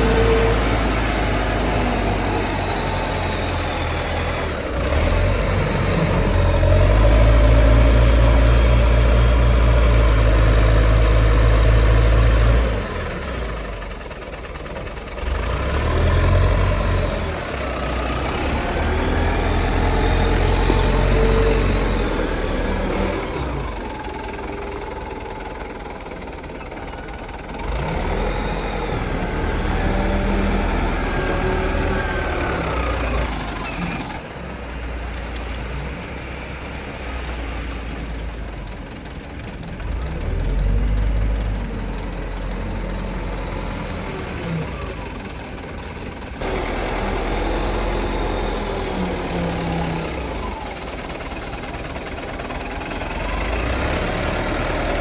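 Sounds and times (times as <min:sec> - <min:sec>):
dump truck diesel engine: 0:00.0 - 0:55.0
wheel loader engine revving: 0:00.0 - 0:55.0.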